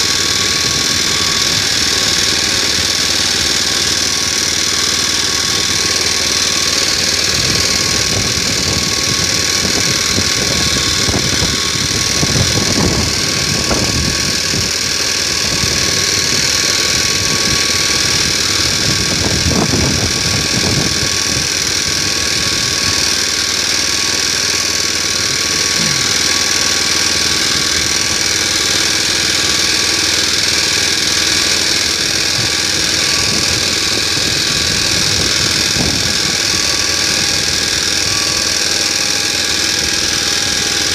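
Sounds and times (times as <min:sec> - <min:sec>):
walk-behind tractor engine running: 0:00.0 - 0:40.9.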